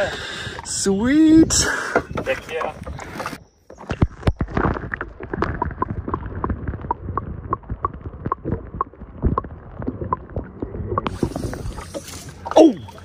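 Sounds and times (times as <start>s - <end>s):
water sloshing underwater: 0.0s - 13.0s.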